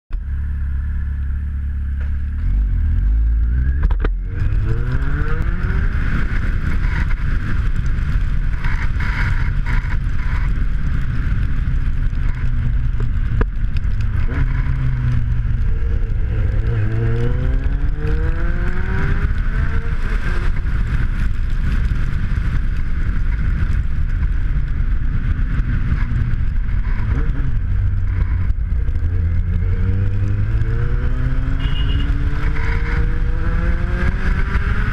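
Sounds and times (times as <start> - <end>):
wind and road noise: 0.1 - 34.9
motorcycle engine revving: 0.2 - 34.9.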